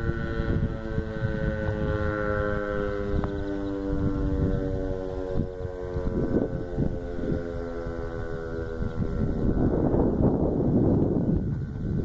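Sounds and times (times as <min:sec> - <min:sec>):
warning siren: 0:00.0 - 0:11.6
wind buffeting microphone: 0:00.0 - 0:12.0.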